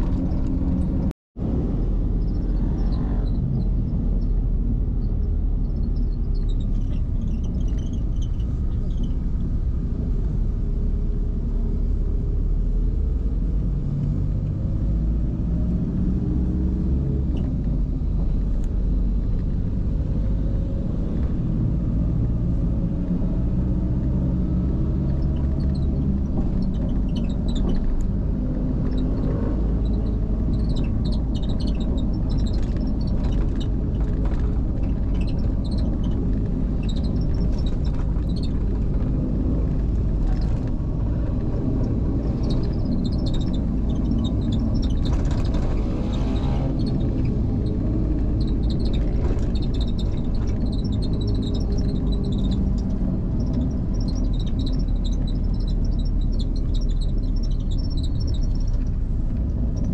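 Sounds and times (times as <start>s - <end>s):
vehicle engine and road rumble: 0.0s - 59.9s.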